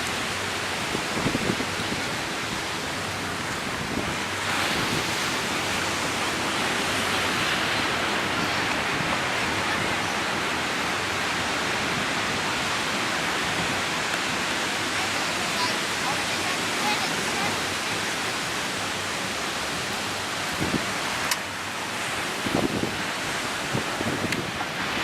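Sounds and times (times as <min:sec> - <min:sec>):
ocean surf washing onto beach: 0:00.0 - 0:25.0
wind on microphone: 0:00.0 - 0:25.0.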